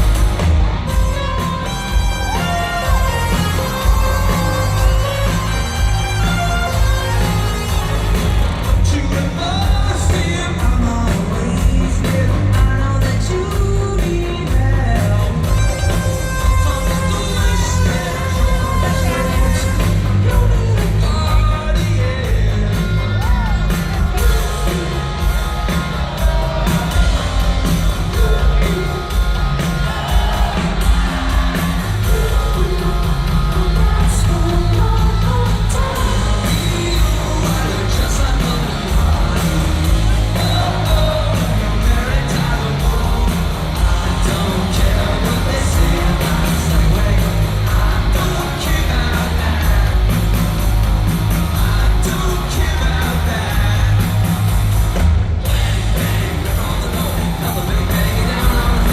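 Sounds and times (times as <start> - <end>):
live rock band playing: 0.0 - 58.9
person singing: 0.9 - 50.6, 51.3 - 54.3, 55.4 - 58.9.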